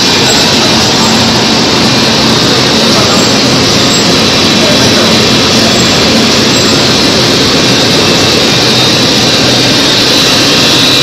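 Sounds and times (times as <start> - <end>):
printing press machine noise: 0.0 - 11.0
thin high whine: 0.0 - 11.0.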